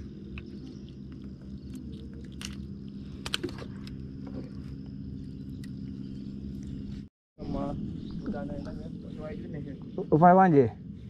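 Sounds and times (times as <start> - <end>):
faint high whine: 0.0 - 11.0
steady low hum: 0.0 - 11.0.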